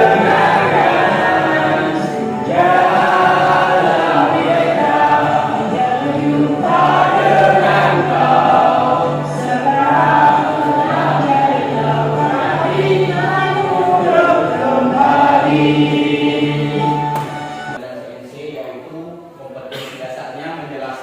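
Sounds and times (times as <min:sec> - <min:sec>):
choir singing: 0:00.0 - 0:17.8.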